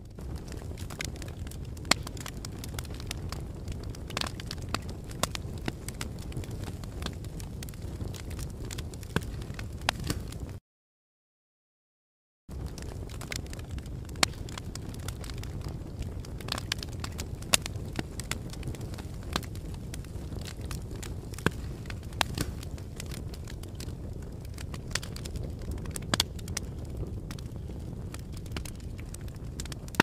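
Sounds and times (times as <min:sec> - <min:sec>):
burning wood popping: 0:00.0 - 0:10.6, 0:12.5 - 0:30.0
low rush of flames: 0:00.0 - 0:10.6, 0:12.5 - 0:30.0.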